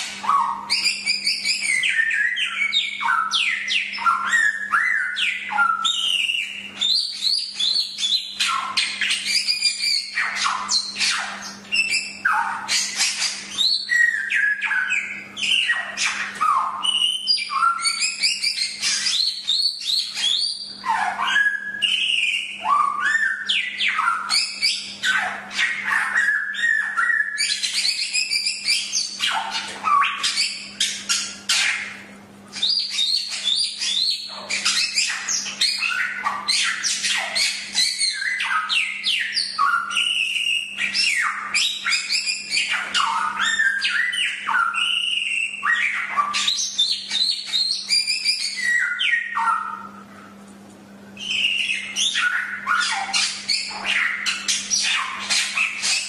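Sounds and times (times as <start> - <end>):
bird whistling and chirping: 0.0 - 50.4, 51.1 - 56.0.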